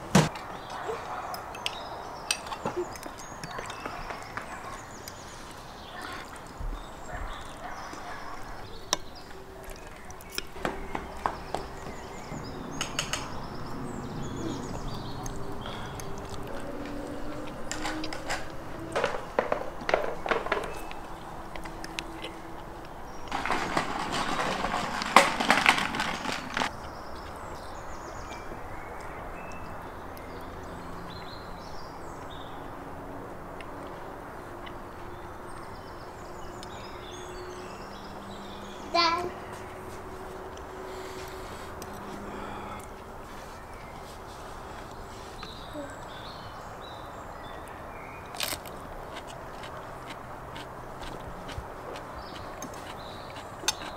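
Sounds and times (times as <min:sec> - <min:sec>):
small birds chirping: 0:00.3 - 0:24.8, 0:25.5 - 0:53.9.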